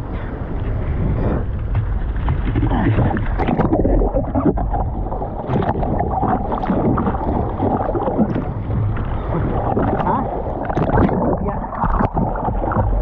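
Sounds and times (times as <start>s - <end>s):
ocean water splashing: 0.0s - 13.0s
wind buffeting microphone: 0.0s - 13.0s.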